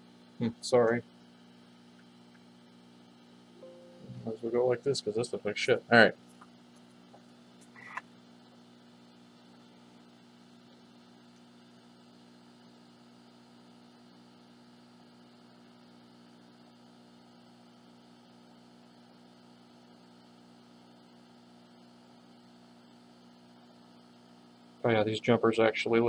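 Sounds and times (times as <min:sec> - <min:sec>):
faint electrical mains hum: 0:00.0 - 0:26.0.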